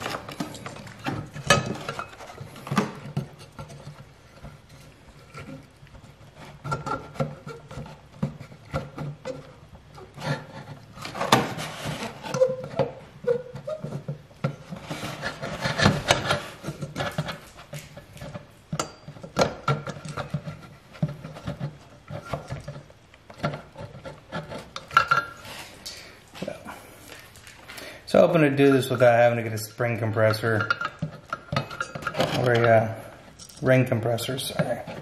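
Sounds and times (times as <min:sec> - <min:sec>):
metal clicks and knocks: 0:00.0 - 0:25.9, 0:30.2 - 0:35.0.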